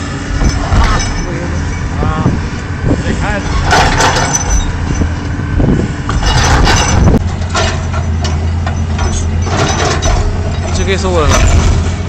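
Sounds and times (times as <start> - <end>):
heavy diesel engine running: 0.0 - 12.0
metallic knocks and clatter: 0.3 - 2.2, 3.3 - 5.4, 6.0 - 12.0.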